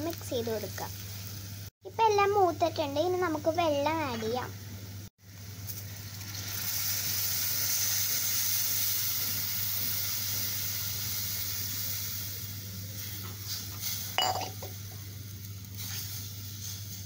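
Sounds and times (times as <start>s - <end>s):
water sizzling in hot pot: 0.0s - 17.0s.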